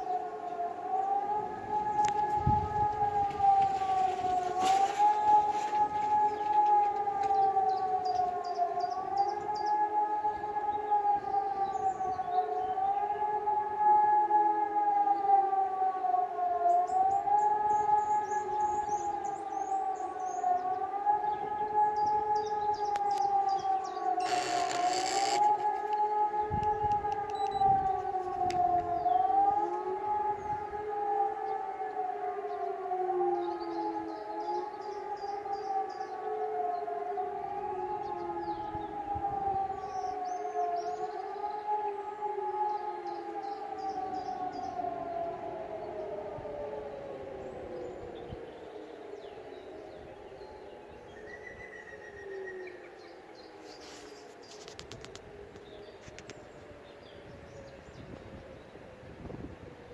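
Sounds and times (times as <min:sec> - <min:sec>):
civil defence sirens howling: 0:00.0 - 0:59.9.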